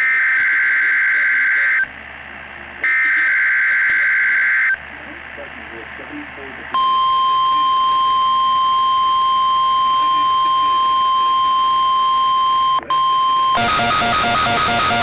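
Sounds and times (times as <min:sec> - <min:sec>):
steady high alarm tone: 0:00.0 - 0:01.9, 0:02.8 - 0:04.8, 0:06.8 - 0:15.0.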